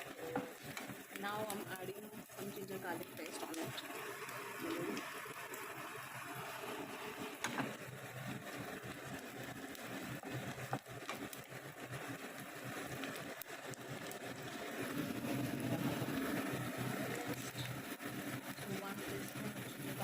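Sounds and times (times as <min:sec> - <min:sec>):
onions frying in oil: 0:00.0 - 0:20.0.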